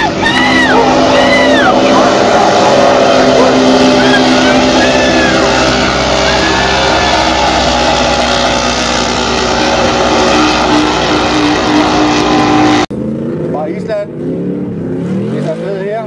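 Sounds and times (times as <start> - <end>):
buggy ploughing through water: 0.0 - 12.9
swamp buggy engine at high revs: 0.0 - 16.0.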